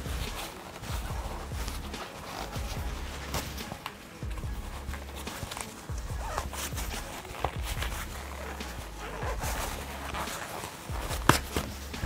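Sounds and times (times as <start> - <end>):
soft case rustling: 0.0 - 12.0.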